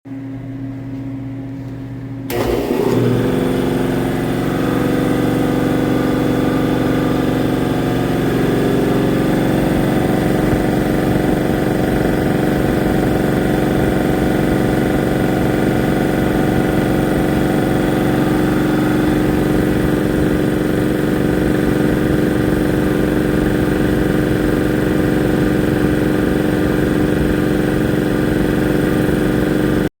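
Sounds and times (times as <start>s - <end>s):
air compressor running: 0.1s - 29.9s
low hum: 0.2s - 29.1s.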